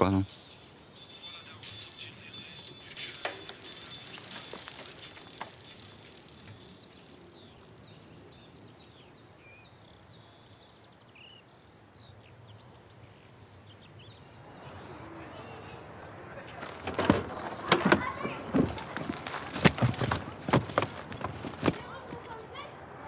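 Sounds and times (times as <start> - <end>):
bird chirping: 0.0 - 15.0, 16.5 - 22.4.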